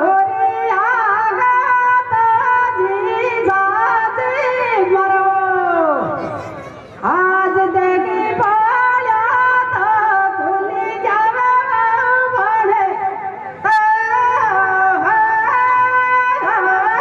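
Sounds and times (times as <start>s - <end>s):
woman singing folk song: 0.0s - 6.0s, 7.0s - 13.2s, 13.8s - 17.0s.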